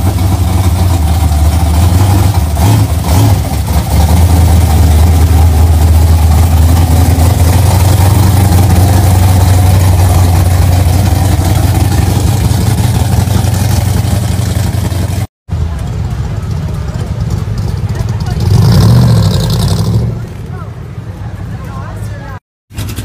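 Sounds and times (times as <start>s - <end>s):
car engine exhaust rumble: 0.0s - 21.6s.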